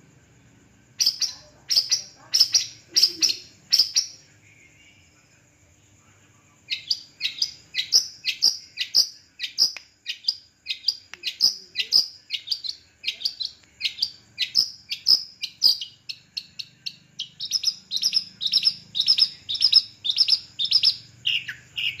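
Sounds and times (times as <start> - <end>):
bird singing rapid repeated notes: 0.9 - 4.2, 6.6 - 22.0.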